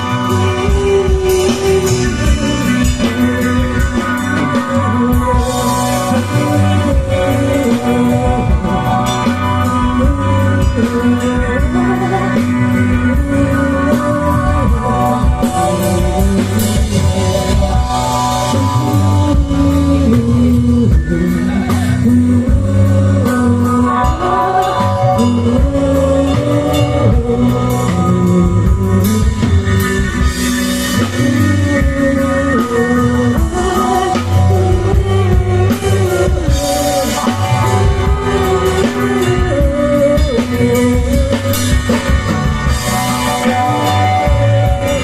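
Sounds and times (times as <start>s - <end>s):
drum kit: 0.0s - 45.0s
electric guitars: 0.0s - 45.0s
person singing: 0.0s - 45.0s.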